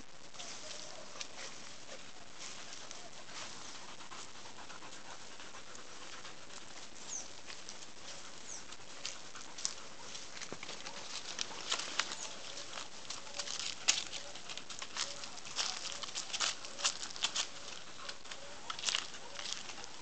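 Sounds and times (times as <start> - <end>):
faint crackles: 0.0 - 20.0
dog panting: 0.7 - 20.0
dog sniffing: 0.7 - 20.0.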